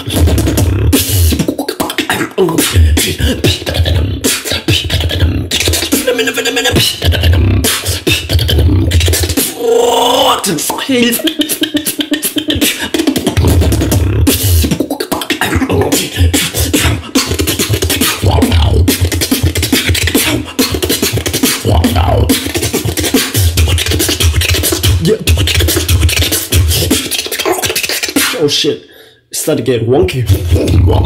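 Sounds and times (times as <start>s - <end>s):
beatboxing: 0.0s - 31.0s.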